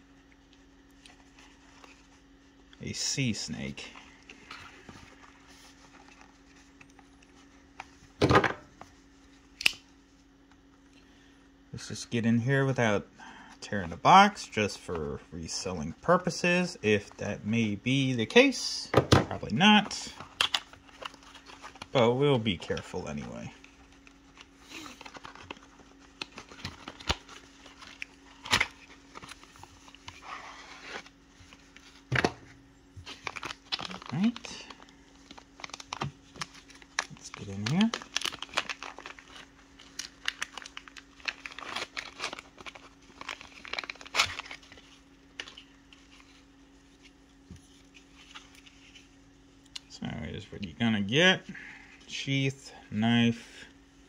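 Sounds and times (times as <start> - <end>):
rustling of card and plastic: 0.0 - 11.1, 11.8 - 49.7.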